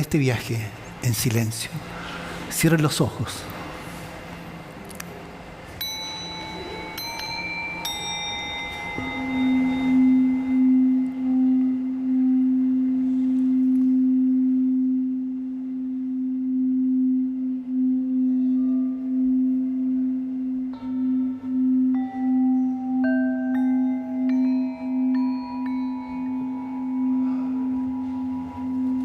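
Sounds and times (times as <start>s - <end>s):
low singing bowl tone: 3.8s - 29.0s
high singing bowl strikes: 5.7s - 29.0s.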